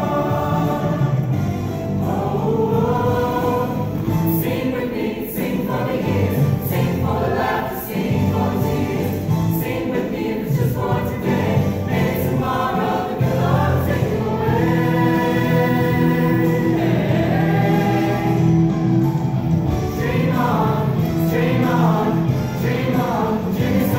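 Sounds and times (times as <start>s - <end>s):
choir singing: 0.0s - 23.9s.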